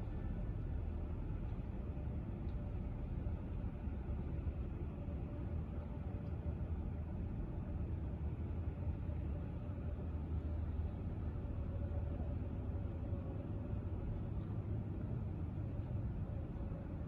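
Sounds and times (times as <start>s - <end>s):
faint steady hum: 0.0s - 17.0s
harbour ambience rumble: 0.0s - 17.0s.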